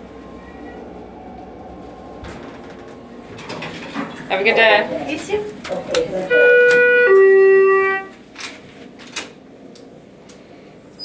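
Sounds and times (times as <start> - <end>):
elevator doors knocking and clicking: 0.0 - 9.4.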